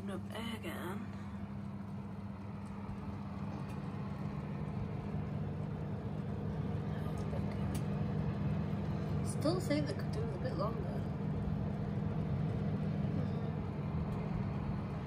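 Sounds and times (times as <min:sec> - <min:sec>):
kitchen appliance fan humming: 0:00.0 - 0:15.0.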